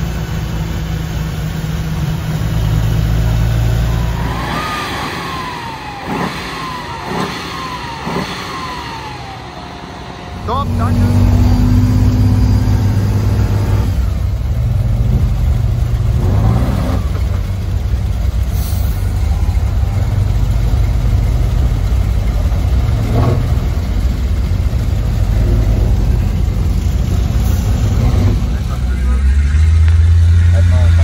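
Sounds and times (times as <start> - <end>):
vehicle engine droning: 0.0 - 31.0.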